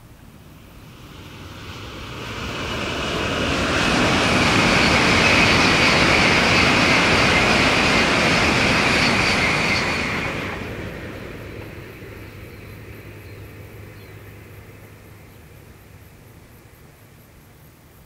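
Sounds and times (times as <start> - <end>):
high-speed train rushing past: 0.0 - 17.7.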